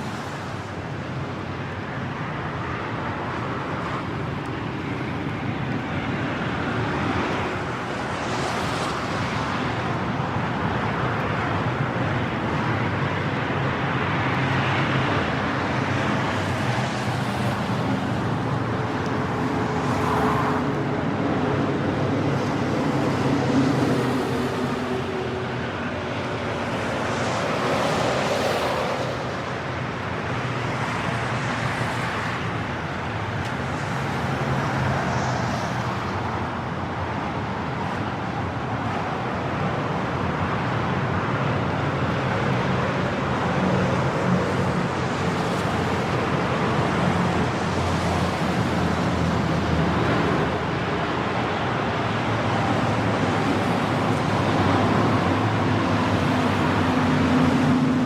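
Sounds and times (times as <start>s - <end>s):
tyres hissing on wet road: 0.0s - 5.0s, 6.1s - 58.0s
cars passing at speed: 0.0s - 58.0s.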